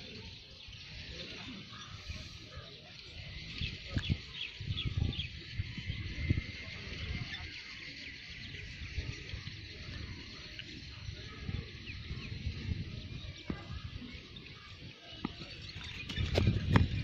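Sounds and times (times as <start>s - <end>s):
birds chirping: 0.0s - 17.0s
wind rumbling on microphone: 0.0s - 17.0s.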